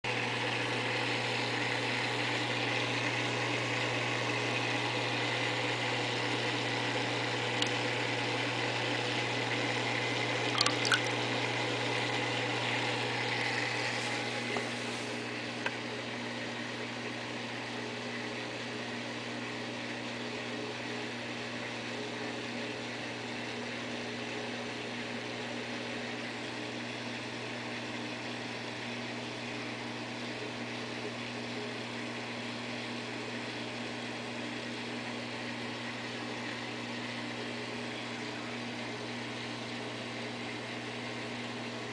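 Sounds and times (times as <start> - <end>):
aquarium water circulating: 0.1 - 41.9.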